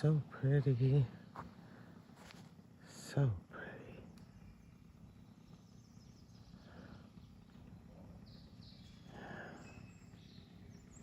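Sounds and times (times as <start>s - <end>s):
faint birds calling: 0.0s - 11.0s
low outdoor background hum: 0.0s - 11.0s.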